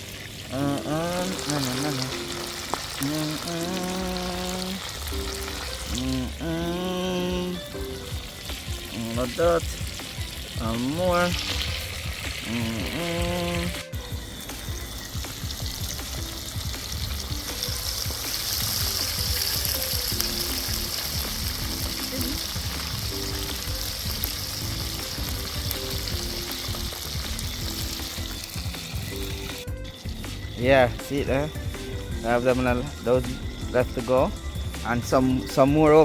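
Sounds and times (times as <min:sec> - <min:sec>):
fish sizzling in hot oil: 0:00.0 - 0:36.0.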